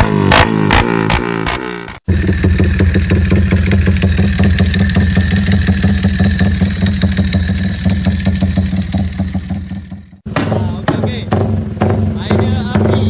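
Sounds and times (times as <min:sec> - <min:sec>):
motorcycle engine idling: 0:02.0 - 0:13.0.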